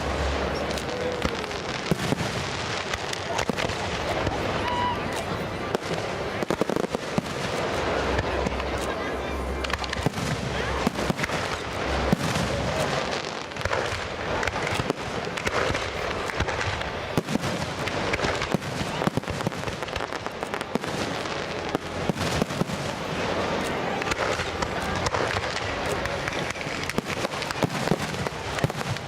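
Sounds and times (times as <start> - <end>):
fireworks crackling and banging: 0.0 - 29.0.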